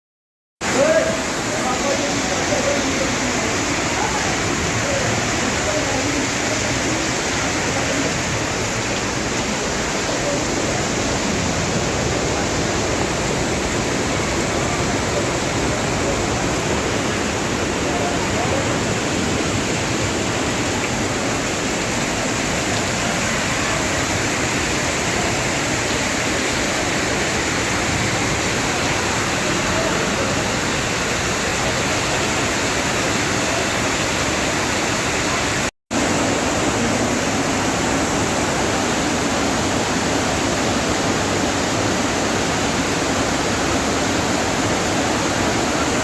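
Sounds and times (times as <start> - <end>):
floodwater rushing: 0.6 - 46.0.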